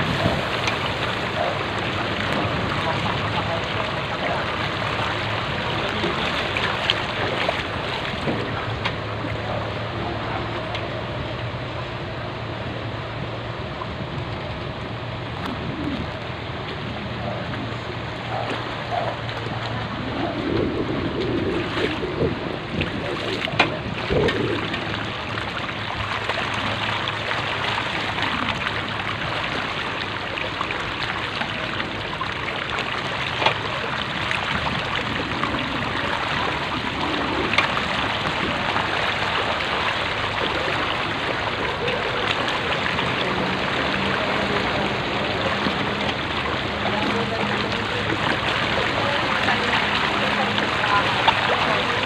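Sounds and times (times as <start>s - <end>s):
floodwater sloshing: 0.0s - 52.0s
low steady hum: 0.0s - 52.0s.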